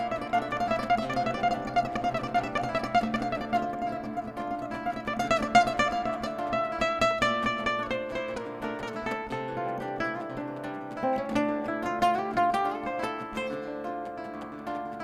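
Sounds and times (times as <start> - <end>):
acoustic guitar plucked notes: 0.0 - 15.0.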